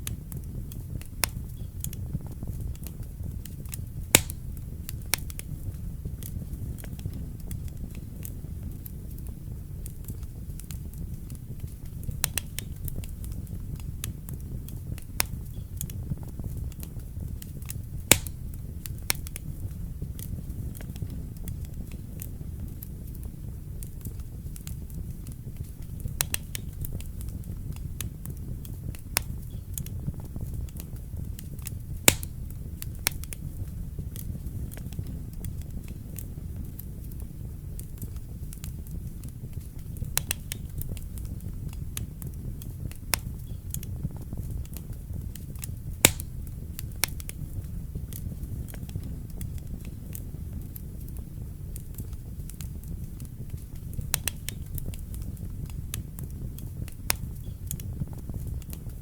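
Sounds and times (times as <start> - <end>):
loud fire snaps: 0.0 - 59.0
wood fire crackling: 0.0 - 59.0.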